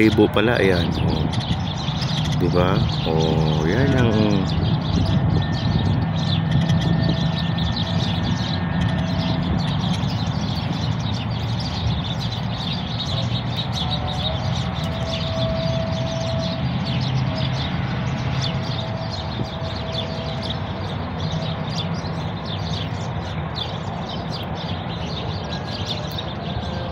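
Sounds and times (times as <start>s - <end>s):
steady low hum: 0.0s - 24.0s
small birds chirping: 0.0s - 26.9s.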